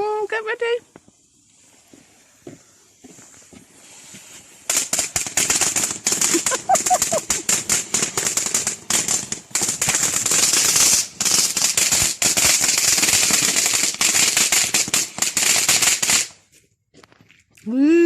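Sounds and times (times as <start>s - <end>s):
firework crackling: 0.0s - 16.5s.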